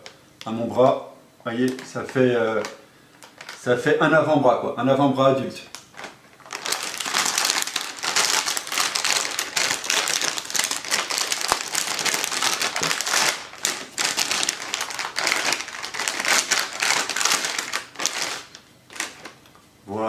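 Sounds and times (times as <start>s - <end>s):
plastic bag crinkling: 1.6s - 3.9s, 5.7s - 19.6s.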